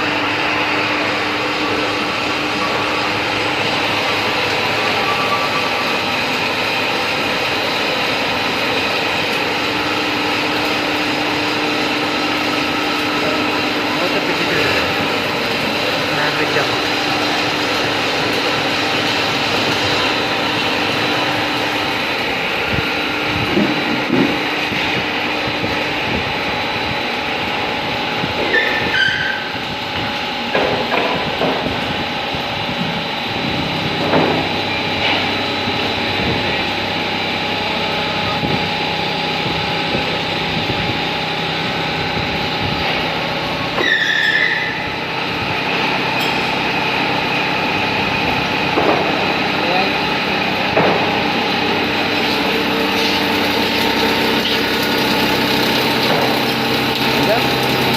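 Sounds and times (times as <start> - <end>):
machinery running: 0.0 - 57.9.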